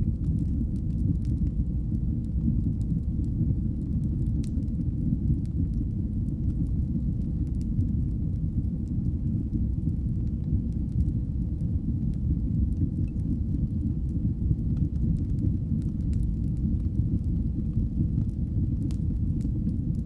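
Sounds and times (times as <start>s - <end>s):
fire crackling and popping: 0.0s - 20.0s
wood fire roaring: 0.0s - 20.0s.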